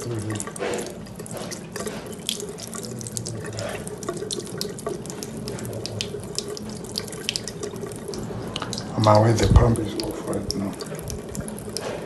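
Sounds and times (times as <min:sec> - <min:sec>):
tap water splashing and dripping: 0:00.0 - 0:12.0.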